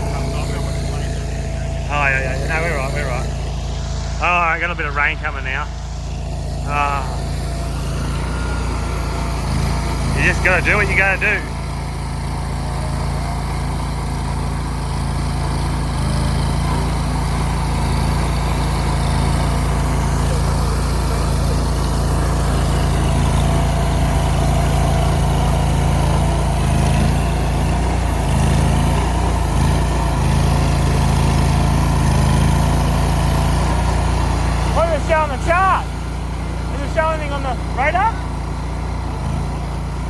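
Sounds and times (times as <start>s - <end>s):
engine running steadily: 0.0s - 40.0s.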